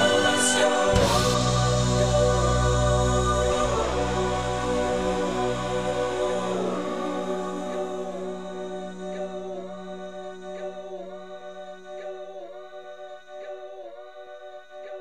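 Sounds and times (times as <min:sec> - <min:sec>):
layered vocal harmony: 0:00.0 - 0:15.0.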